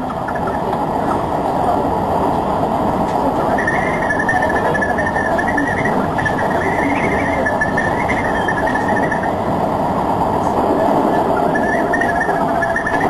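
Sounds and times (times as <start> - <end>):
train wheels rumbling on track: 0.0 - 13.0
wavering high whine: 0.0 - 13.0.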